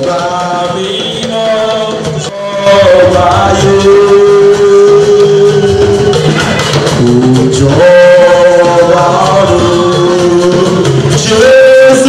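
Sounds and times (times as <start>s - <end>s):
person singing into a microphone: 0.0s - 12.0s.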